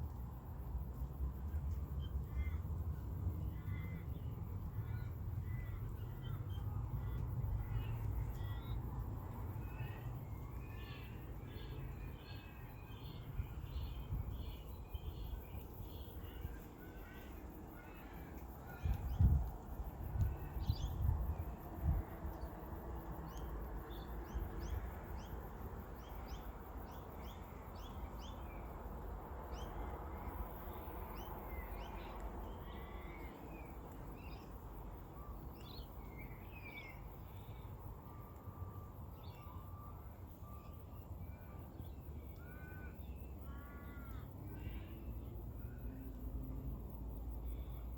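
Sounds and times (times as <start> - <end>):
steady low background noise: 0.0 - 47.9.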